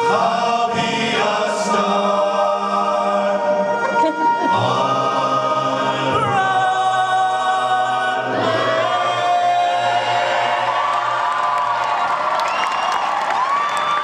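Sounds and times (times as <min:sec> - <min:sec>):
male a cappella group singing: 0:00.0 - 0:11.2.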